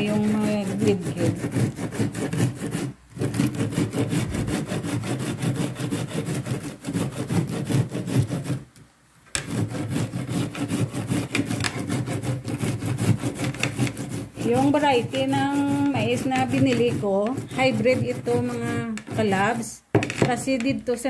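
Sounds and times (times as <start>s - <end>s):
corn grated on metal grater: 0.0s - 8.7s, 9.4s - 20.6s.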